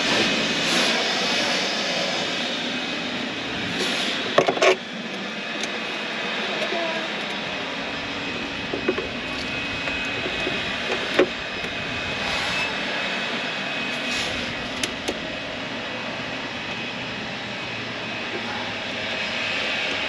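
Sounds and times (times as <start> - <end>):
steady rushing noise: 0.0 - 6.6, 7.2 - 20.0.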